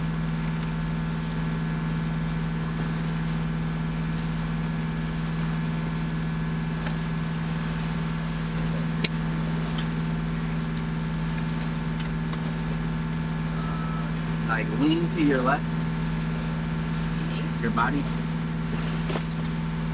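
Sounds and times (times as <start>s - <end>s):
boat engine humming: 0.0s - 19.9s.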